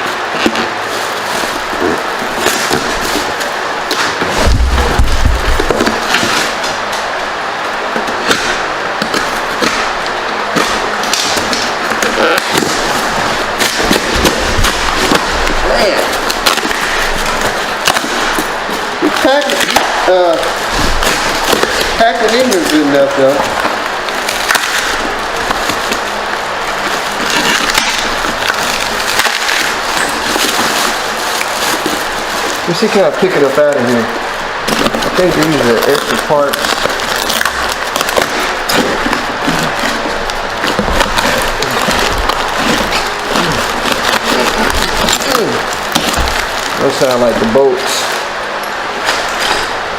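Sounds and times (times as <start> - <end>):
spray foam and cardboard crunching: 0.0 - 49.9.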